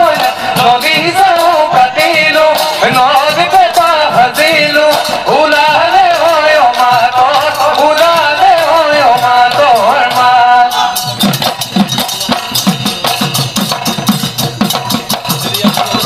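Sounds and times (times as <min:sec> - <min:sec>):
dhol drumming: 0:00.0 - 0:16.0
rattling percussion: 0:00.0 - 0:16.0.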